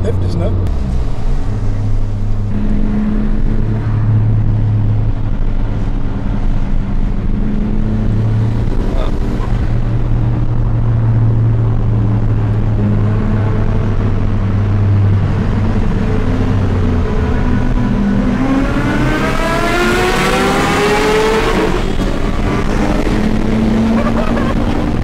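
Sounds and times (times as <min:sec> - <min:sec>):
car engine cruising: 0:00.0 - 0:25.0
road noise: 0:00.0 - 0:25.0.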